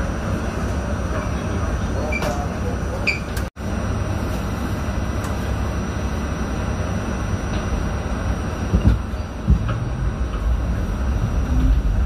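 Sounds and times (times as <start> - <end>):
subway car motor rumble: 0.0 - 12.0.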